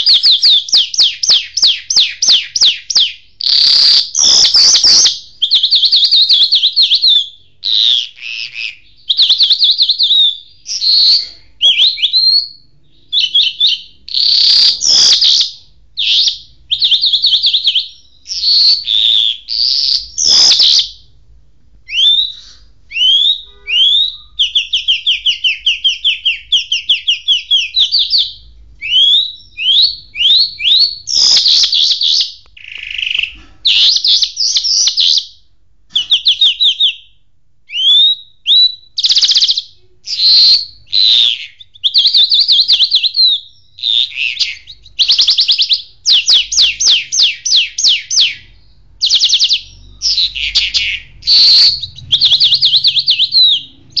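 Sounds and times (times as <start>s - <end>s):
songbird singing trills: 0.0s - 21.1s, 21.9s - 54.0s.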